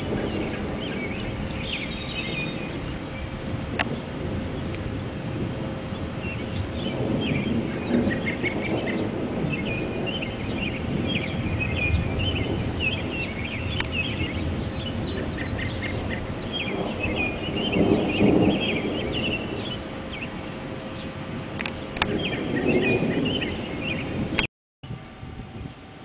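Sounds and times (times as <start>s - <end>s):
birds chattering: 0.0s - 4.3s, 5.9s - 24.2s
wind rushing over microphone: 0.0s - 26.0s.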